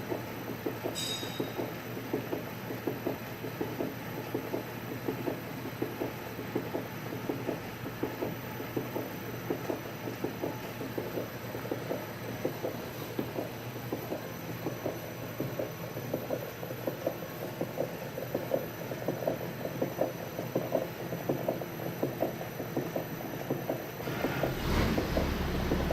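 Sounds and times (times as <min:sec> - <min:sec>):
rapid repeating engine knock: 0:00.0 - 0:25.9.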